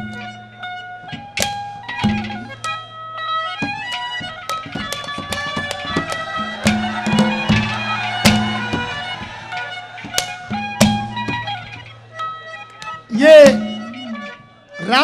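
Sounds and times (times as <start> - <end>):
instrumental melody: 0.0 - 15.0.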